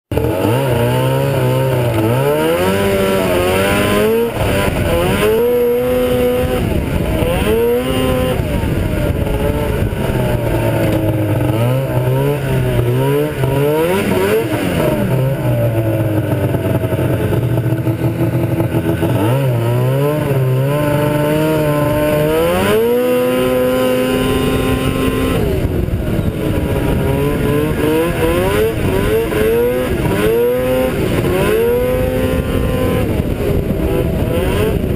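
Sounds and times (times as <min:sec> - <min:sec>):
snowmobile two-stroke engine: 0:00.1 - 0:34.9.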